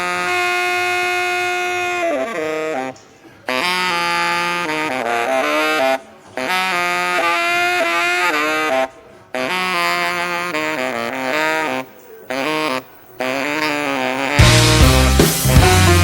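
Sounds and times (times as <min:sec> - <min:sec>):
saxophone-like melody: 0:00.0 - 0:16.0.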